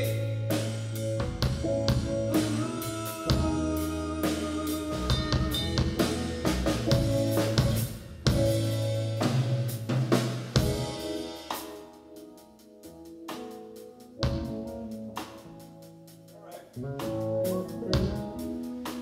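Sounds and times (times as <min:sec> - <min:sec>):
drum kit playing: 0:00.0 - 0:19.0
electric bass notes: 0:00.0 - 0:19.0
keyboard chords: 0:00.0 - 0:19.0.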